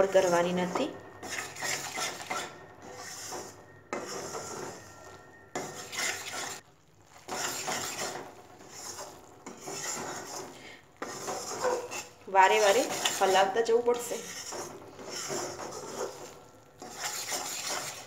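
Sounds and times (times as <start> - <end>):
spatula scraping metal pan: 0.0 - 18.0.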